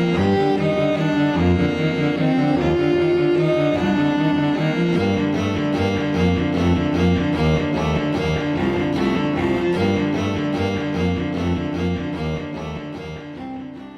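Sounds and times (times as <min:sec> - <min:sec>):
cello melody: 0:00.0 - 0:13.9.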